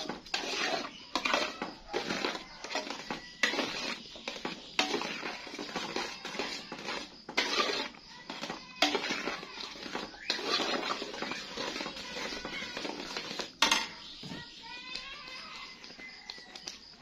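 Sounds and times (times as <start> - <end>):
spoon stirring and scraping a pot: 0.0 - 17.0.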